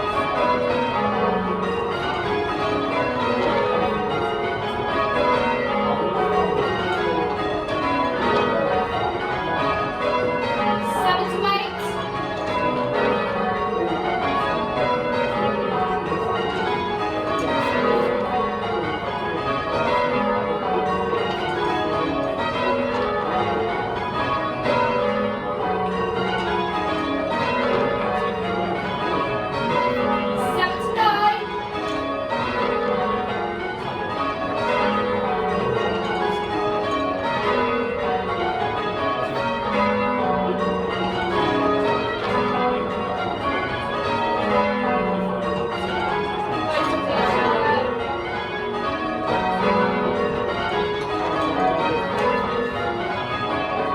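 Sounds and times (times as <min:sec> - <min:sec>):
church bells change ringing: 0:00.0 - 0:53.9.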